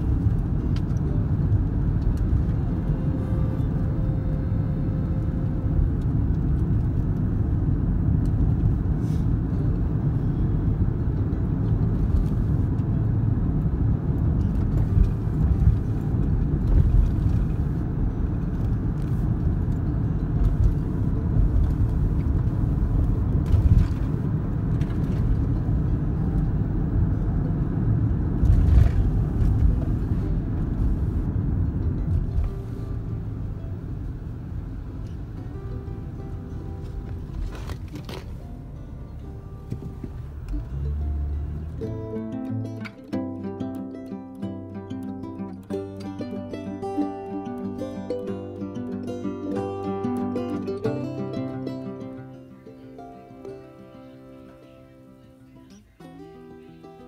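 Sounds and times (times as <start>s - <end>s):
car driving rumble inside cabin: 0.0s - 54.3s.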